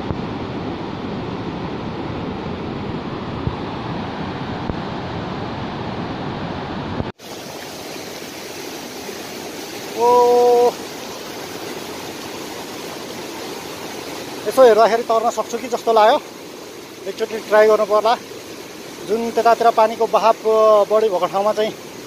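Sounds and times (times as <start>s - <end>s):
river rushing over boulders: 0.0s - 22.0s.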